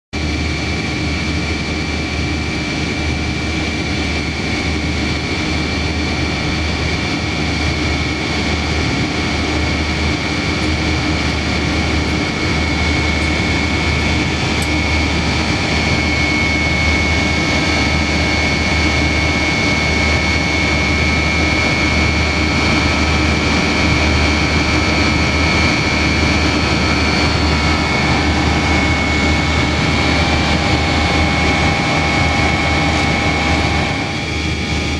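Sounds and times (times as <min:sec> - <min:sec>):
airliner engine noise in cabin: 0:00.2 - 0:34.9
high steady engine whine: 0:00.2 - 0:34.9.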